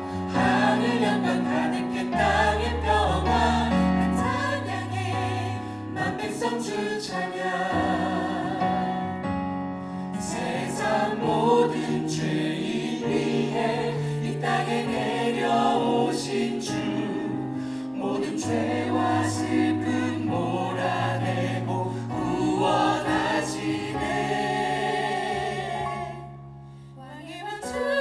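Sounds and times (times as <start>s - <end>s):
choir singing: 0.0s - 9.4s, 10.1s - 28.0s.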